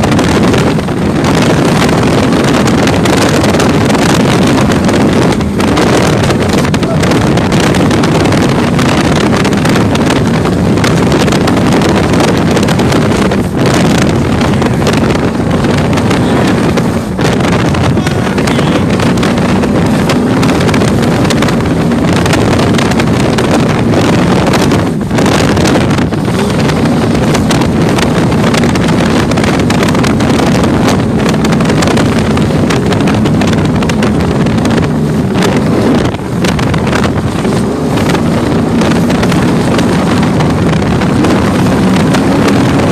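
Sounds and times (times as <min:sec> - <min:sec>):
boat engine hum: 0:00.0 - 0:42.9
rushing water and hull noise: 0:00.0 - 0:42.9
wind buffeting microphone: 0:00.0 - 0:42.9.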